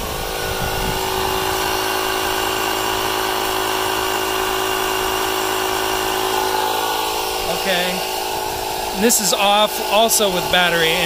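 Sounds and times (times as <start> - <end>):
tyre inflator pump humming: 0.0 - 11.0.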